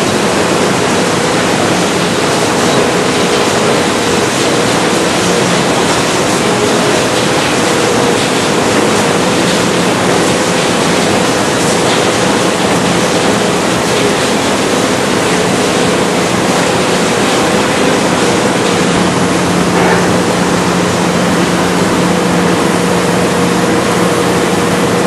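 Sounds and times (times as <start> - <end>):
factory machinery rushing noise: 0.0 - 25.0.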